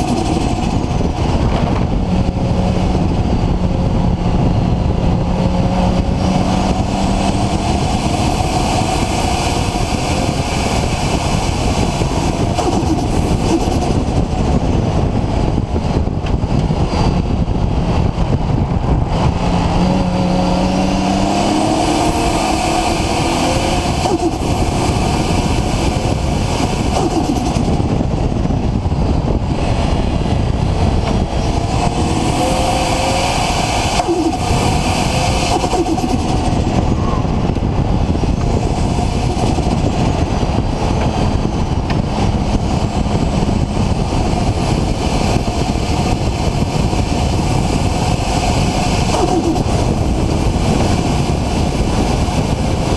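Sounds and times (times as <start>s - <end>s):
turbo car engine revving: 0.0s - 52.9s.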